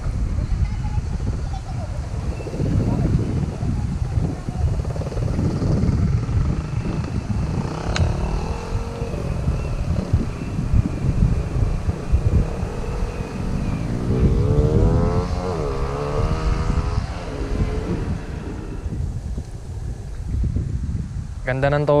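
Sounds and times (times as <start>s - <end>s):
wind on microphone: 0.0s - 22.0s
motorcycle engine: 1.2s - 20.9s.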